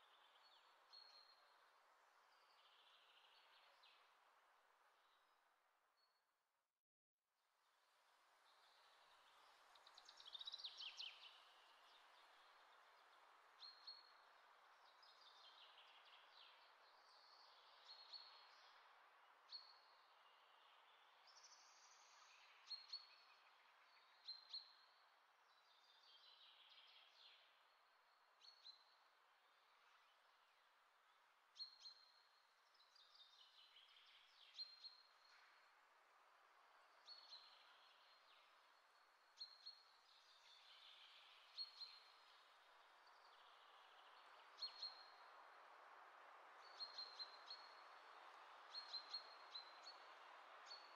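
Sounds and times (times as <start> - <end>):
low steady hiss: 0.0 - 6.2, 7.3 - 50.9.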